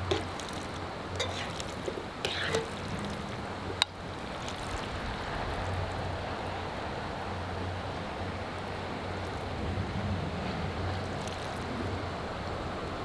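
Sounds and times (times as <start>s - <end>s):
sea surf: 0.0s - 13.0s.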